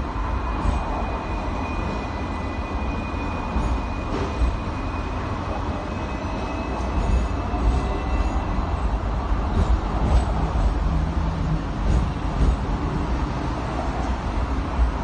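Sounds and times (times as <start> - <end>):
tram rumbling on tracks: 0.0 - 15.0.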